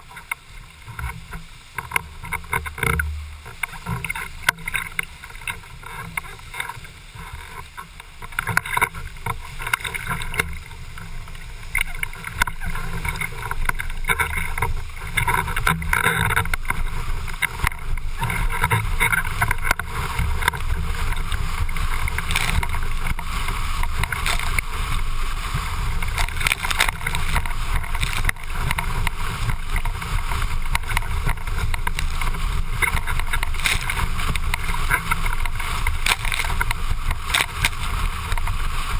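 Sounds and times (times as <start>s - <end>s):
board slapping waves: 0.0s - 38.9s
water hissing and spraying: 0.0s - 38.9s
wind rumbling on microphone: 0.0s - 38.9s.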